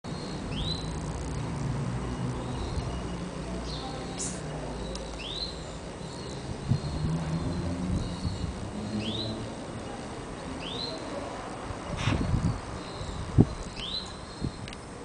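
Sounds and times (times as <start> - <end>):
birds chirping: 0.1 - 1.4, 2.0 - 15.0.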